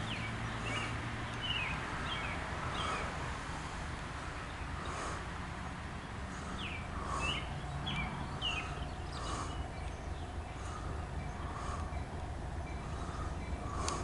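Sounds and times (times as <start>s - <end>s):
bird chirping: 0.0s - 3.2s, 4.2s - 14.0s
diesel locomotive rumble: 0.0s - 14.0s.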